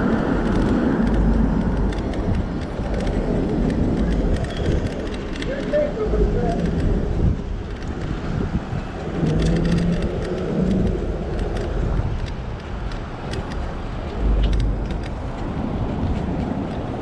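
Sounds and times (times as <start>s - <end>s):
street traffic: 0.0s - 17.0s
wind rumble on microphone: 0.0s - 17.0s
light clicks and rattles: 0.2s - 17.0s.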